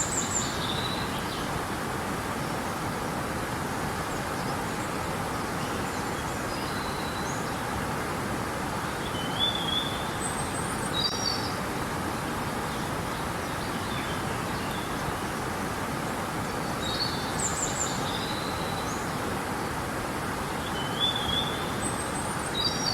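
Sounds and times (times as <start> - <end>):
river water running: 0.0 - 22.9.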